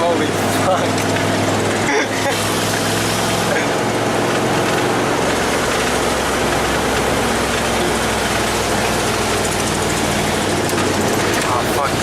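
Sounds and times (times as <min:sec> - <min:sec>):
engine drone: 0:00.0 - 0:12.0
road and wind noise: 0:00.0 - 0:12.0.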